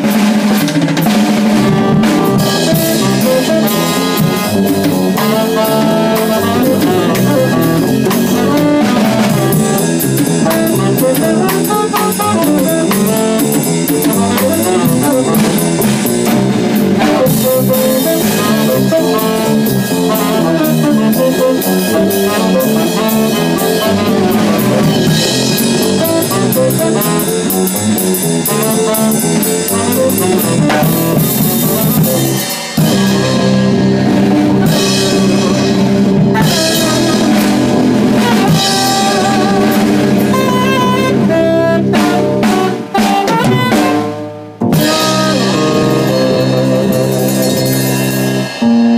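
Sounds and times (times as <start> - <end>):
drum kit with cymbals: 0.0 - 48.9
saxophone lead: 1.0 - 48.9
upright double bass: 1.0 - 48.9.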